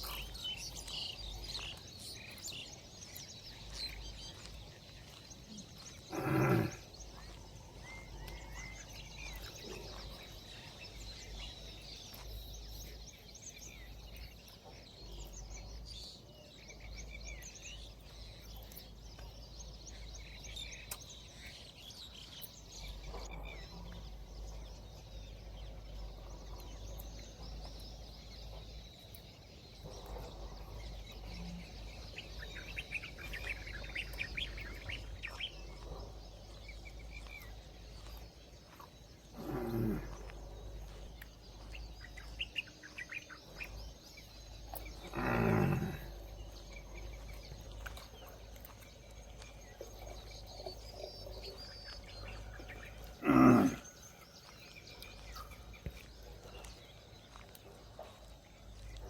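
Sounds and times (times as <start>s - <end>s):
birds chirping: 0.0s - 59.0s
low falling bird calls: 0.0s - 59.0s.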